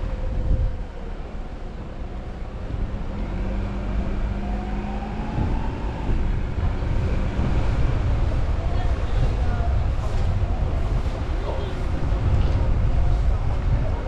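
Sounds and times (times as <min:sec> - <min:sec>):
car engine rumble: 0:00.0 - 0:14.0
road noise: 0:00.0 - 0:14.0.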